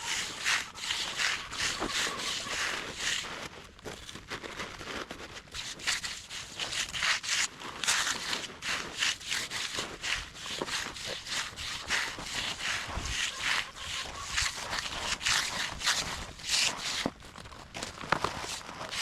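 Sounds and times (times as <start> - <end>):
tool scraping fresh concrete: 0.0 - 4.2, 5.4 - 19.0.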